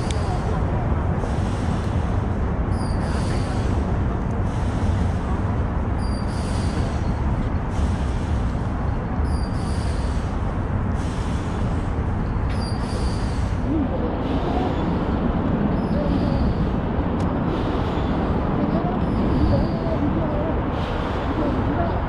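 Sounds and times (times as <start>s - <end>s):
city traffic rumbling: 0.0s - 22.0s.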